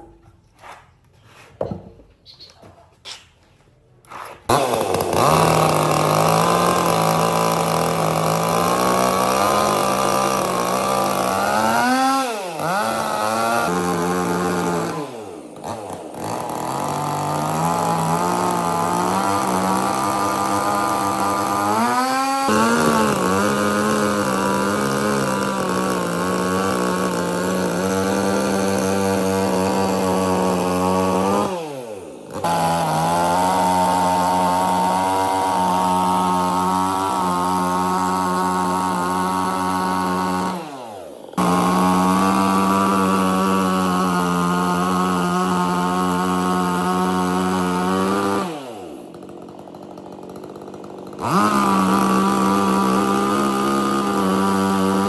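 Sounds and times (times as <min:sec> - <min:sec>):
chainsaw cutting wood: 0:04.1 - 0:55.0.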